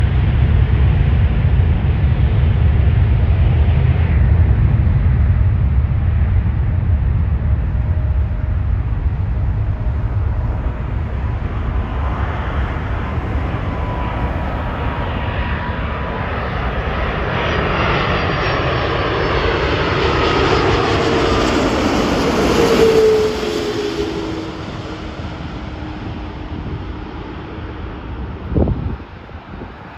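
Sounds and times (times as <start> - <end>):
jet engines whining: 0.0 - 29.9.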